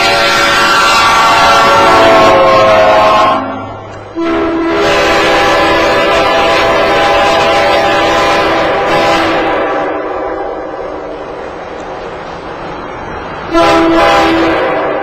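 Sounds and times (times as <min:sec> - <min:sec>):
locomotive air horn chords: 0:00.0 - 0:10.7, 0:13.5 - 0:15.0.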